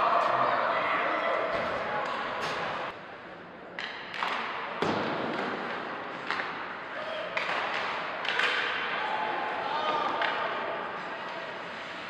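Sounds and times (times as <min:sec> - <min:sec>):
hiss of ice hockey play: 0:00.1 - 0:12.0.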